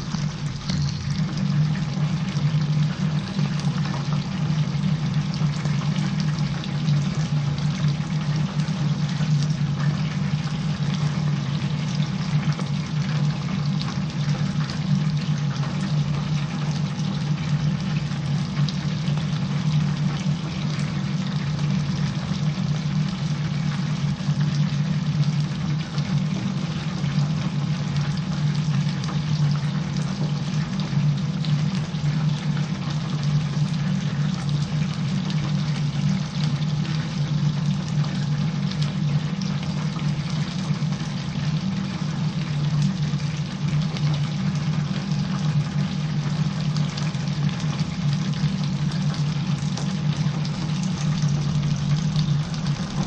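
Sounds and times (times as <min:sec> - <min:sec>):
low machine hum: 0:00.0 - 0:53.0
oil bubbling and crackling: 0:00.0 - 0:53.0.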